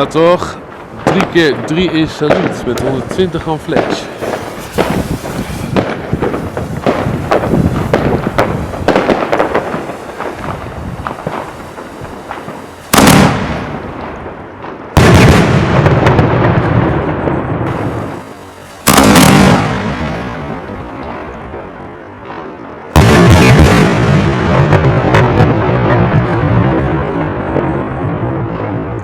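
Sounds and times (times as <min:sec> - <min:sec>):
fireworks cracking and banging: 0:00.0 - 0:29.0
heavy fireworks booms: 0:00.0 - 0:29.0.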